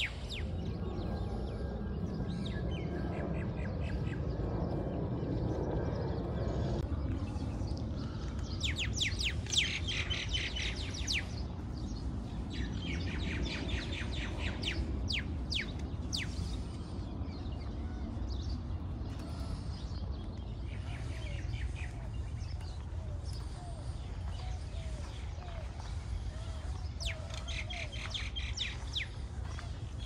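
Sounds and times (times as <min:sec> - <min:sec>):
birds chirping: 0:00.0 - 0:30.0
steady low rumble: 0:00.0 - 0:30.0.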